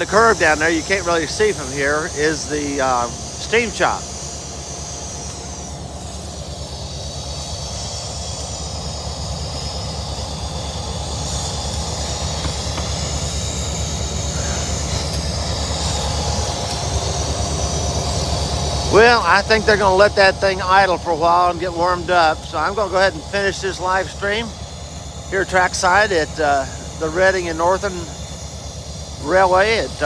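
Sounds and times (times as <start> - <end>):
locomotive engines idling: 0.0 - 30.0.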